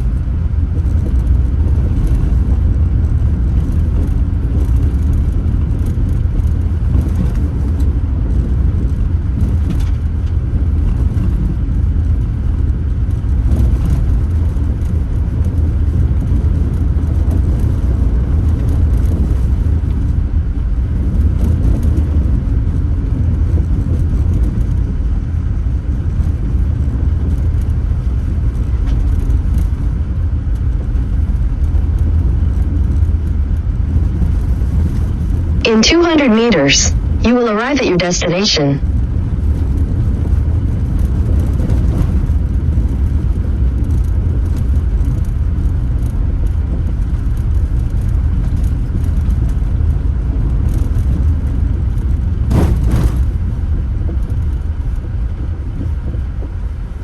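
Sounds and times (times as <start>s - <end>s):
in-car road rumble: 0.0s - 35.6s, 38.8s - 57.0s.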